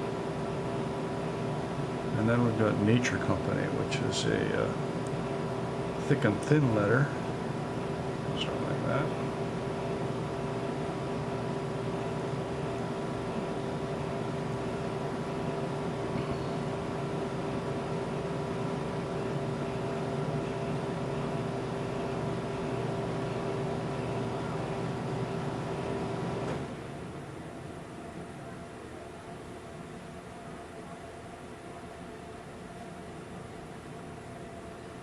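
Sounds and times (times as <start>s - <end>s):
mechanical hum with pitched tone: 0.0s - 35.0s.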